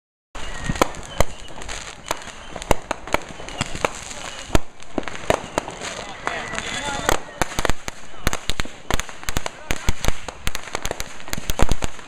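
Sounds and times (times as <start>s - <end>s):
fireworks and firecrackers banging: 0.4s - 12.0s.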